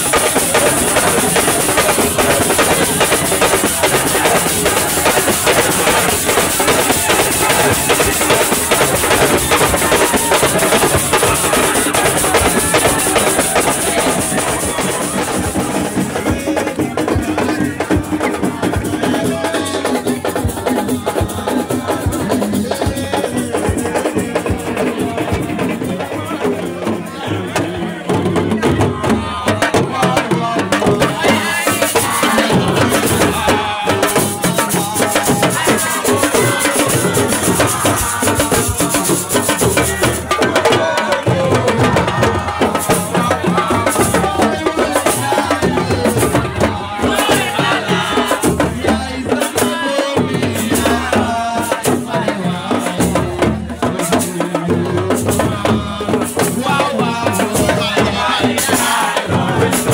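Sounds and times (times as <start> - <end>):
drums: 0.0 - 59.9
voices singing: 0.0 - 59.9.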